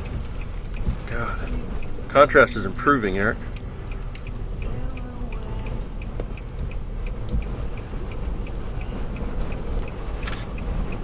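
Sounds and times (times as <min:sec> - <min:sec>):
light even ticking: 0:00.0 - 0:11.0
vehicle cabin rumble: 0:00.0 - 0:11.0.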